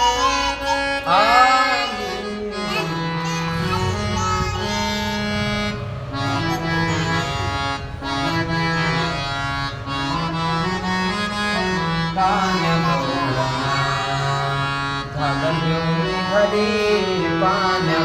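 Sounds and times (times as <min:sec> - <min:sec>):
harmonium melody: 0:00.0 - 0:18.0.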